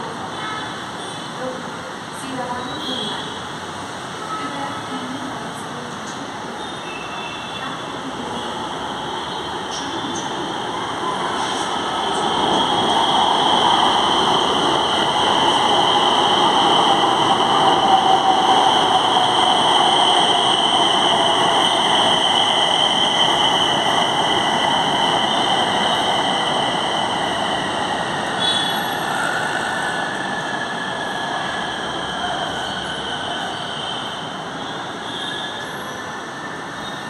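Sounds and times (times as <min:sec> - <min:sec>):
train wheels rolling on rails: 0:05.6 - 0:37.0.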